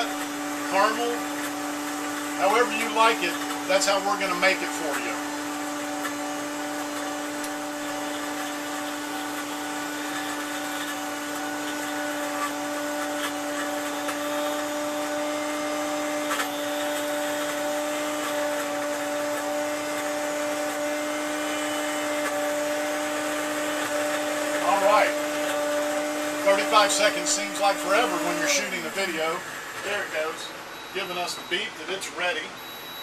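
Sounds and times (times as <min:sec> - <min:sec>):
blender crushing ice: 0:00.0 - 0:32.5.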